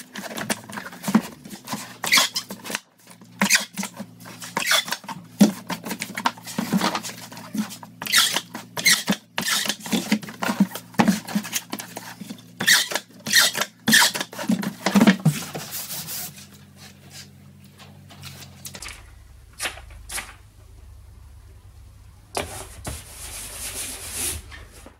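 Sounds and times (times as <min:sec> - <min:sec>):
cardboard rustling and scraping: 0:00.0 - 0:20.3, 0:22.4 - 0:24.9.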